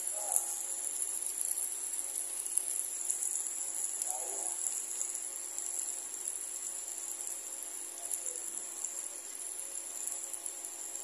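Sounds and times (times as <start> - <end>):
curry simmering with pops: 0.0 - 11.0.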